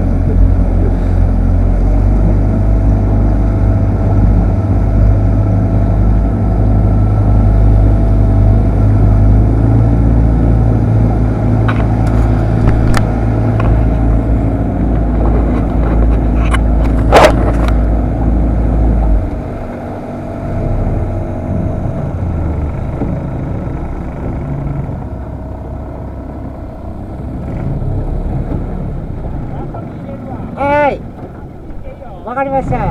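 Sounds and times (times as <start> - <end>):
boat motor running: 0.0 - 32.9.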